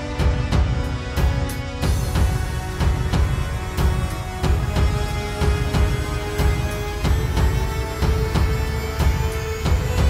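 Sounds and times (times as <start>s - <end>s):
background music with bass thumps: 0.0s - 10.0s.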